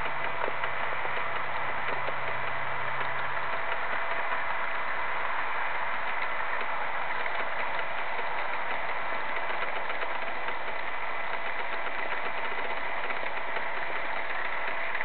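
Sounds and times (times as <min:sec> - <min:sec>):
faint clicks: 0:00.0 - 0:15.0
model train mechanical hum: 0:00.0 - 0:15.0.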